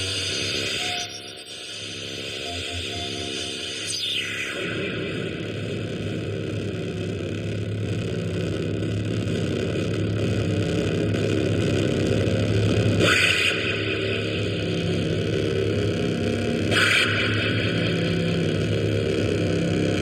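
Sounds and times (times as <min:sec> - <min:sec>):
synthesizer rumbling drone: 0:01.9 - 0:20.0.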